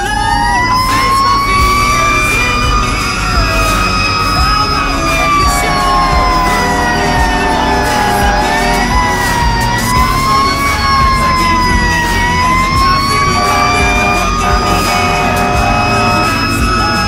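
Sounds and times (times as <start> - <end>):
fire engine siren wailing: 0.0 - 17.0.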